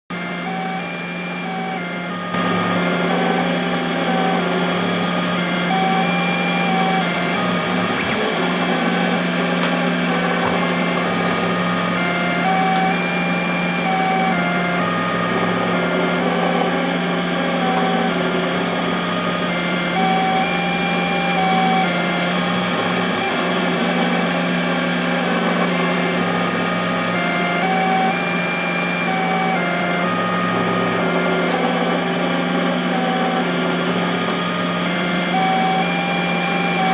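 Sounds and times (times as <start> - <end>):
stepper motors whining: 0.1 - 36.9.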